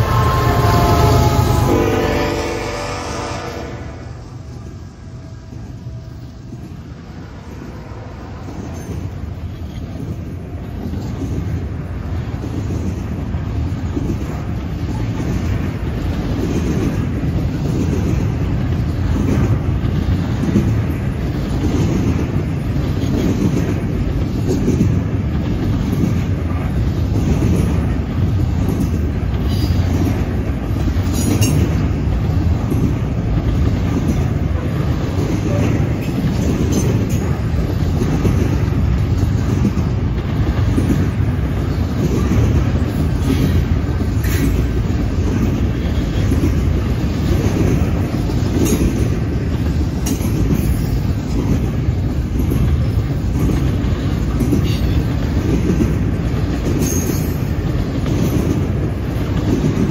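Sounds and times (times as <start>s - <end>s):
freight train wheels rumbling on track: 0.0s - 59.9s.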